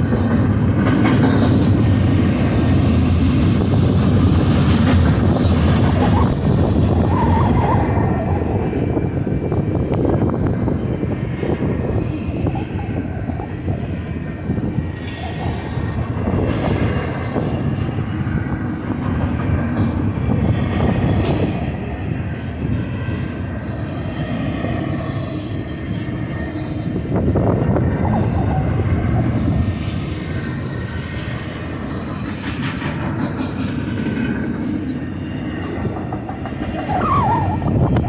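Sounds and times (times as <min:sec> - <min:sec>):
freight train rumbling past: 0:00.0 - 0:38.0.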